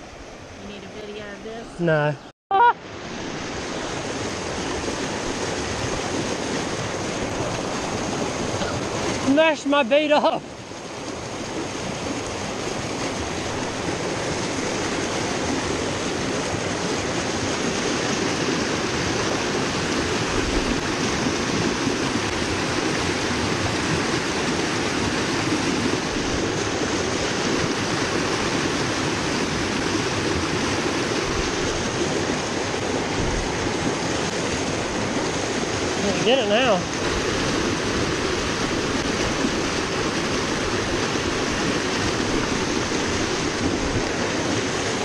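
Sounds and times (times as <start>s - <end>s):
stream rushing over boulders: 2.8s - 45.0s.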